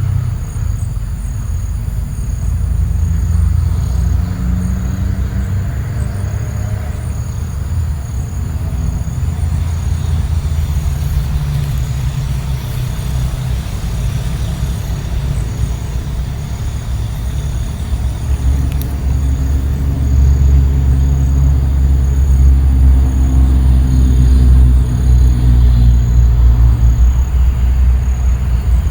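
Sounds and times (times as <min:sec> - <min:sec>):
low rumble: 0:00.0 - 0:28.9
high chirping: 0:00.3 - 0:26.0.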